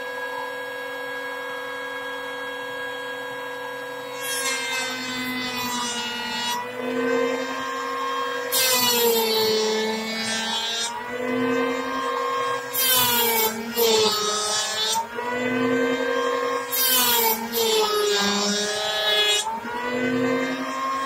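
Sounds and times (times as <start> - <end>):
electric planer motor whine: 0.0 - 21.0.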